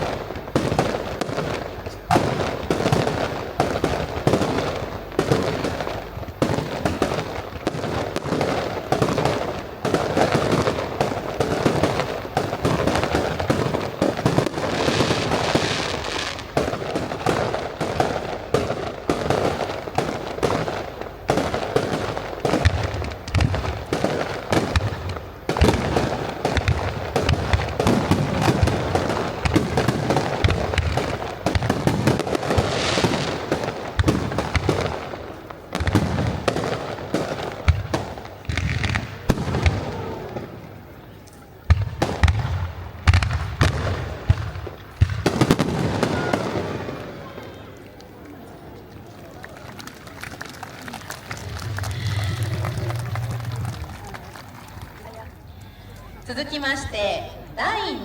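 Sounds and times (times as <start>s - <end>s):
fireworks bursting: 0.0s - 58.0s
fireworks crackling: 0.0s - 58.0s.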